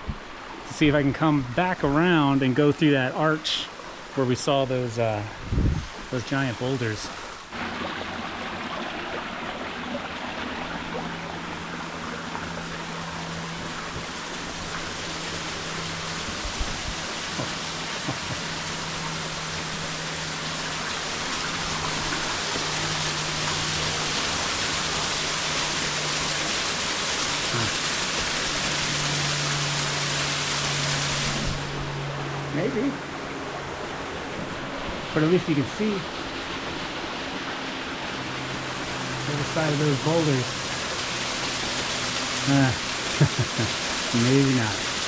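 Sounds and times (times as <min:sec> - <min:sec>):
stream spilling over rocks: 0:00.0 - 0:45.0.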